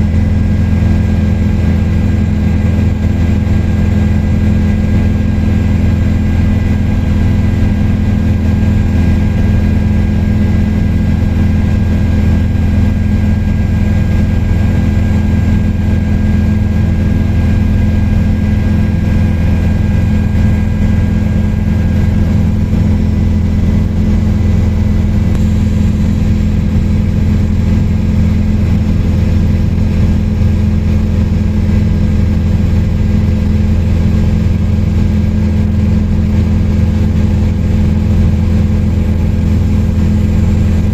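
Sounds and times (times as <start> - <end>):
helicopter engine and rotor drone: 0.0 - 40.9
high whine: 0.0 - 40.9.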